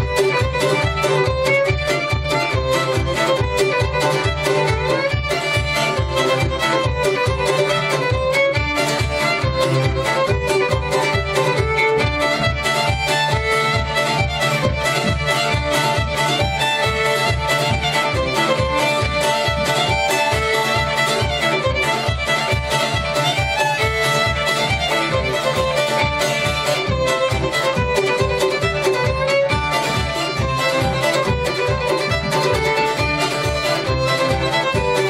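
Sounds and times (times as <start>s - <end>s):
fiddle and bouzouki polka: 0.0s - 35.0s
low pulsing beat: 0.0s - 35.0s.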